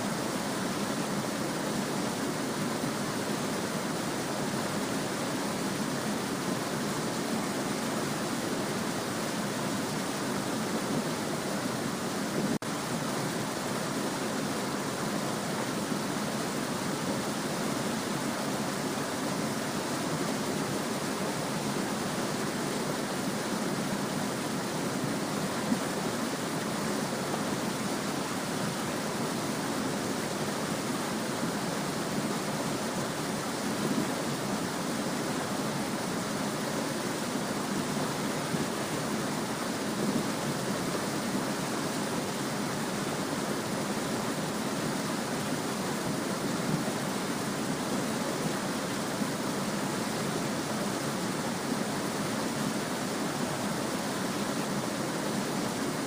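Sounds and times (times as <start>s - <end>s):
small stream babbling: 0.0s - 56.0s.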